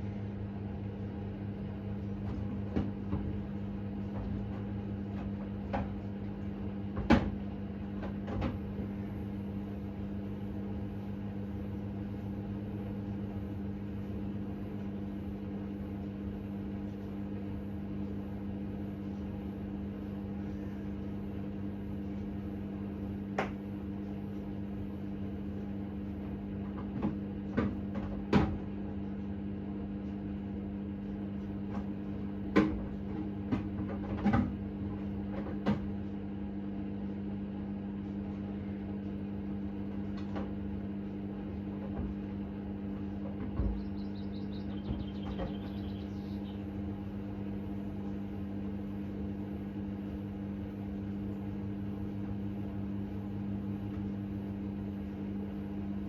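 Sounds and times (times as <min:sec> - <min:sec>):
washing machine humming: 0:00.0 - 0:56.0.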